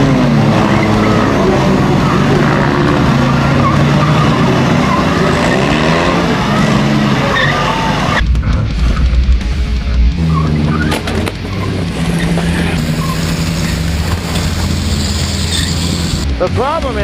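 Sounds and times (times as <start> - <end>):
tire squeals: 0.0 - 8.2, 10.2 - 16.3
car engines revving: 0.0 - 17.0.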